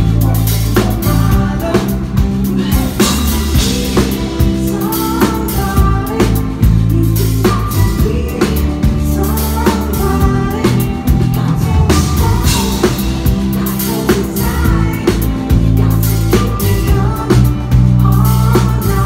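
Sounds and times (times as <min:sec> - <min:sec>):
drum kit beat: 0:00.0 - 0:19.0
person singing: 0:00.0 - 0:19.0
sustained bass notes: 0:00.0 - 0:19.0.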